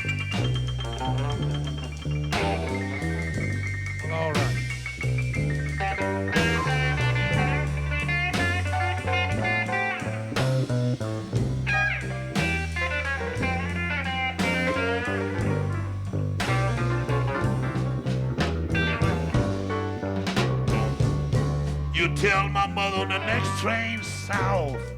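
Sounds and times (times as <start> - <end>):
lead guitar with bent notes: 0.0 - 21.2, 21.9 - 24.9
blues band playing: 0.0 - 24.9.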